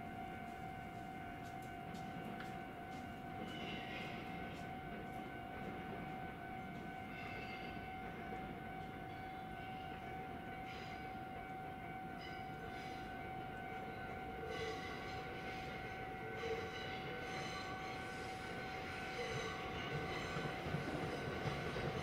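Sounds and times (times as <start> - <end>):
train running slowly: 0.0 - 22.0.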